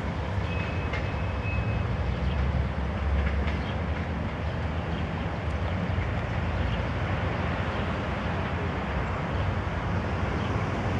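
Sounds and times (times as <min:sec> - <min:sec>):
diesel locomotive engine droning: 0:00.0 - 0:10.9.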